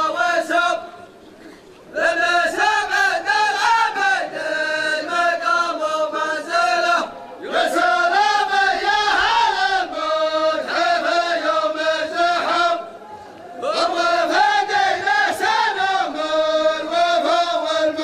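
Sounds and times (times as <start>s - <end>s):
men chanting in unison: 0.0s - 1.0s, 1.9s - 18.0s.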